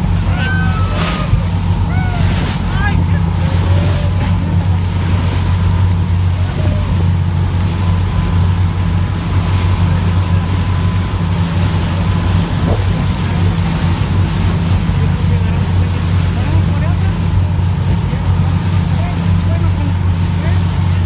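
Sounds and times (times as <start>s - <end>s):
motorboat engine droning: 0.0s - 21.0s
water rushing from boat wake: 0.0s - 21.0s.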